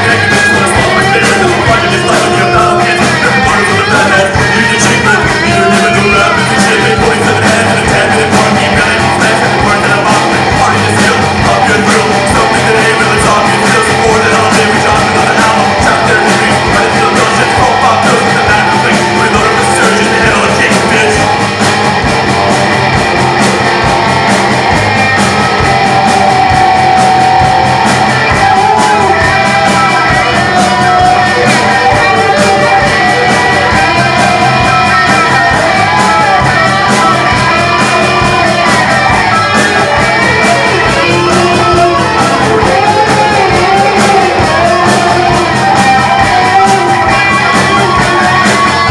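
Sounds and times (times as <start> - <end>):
man singing: 0.0 - 48.9
rock band playing: 0.0 - 48.9.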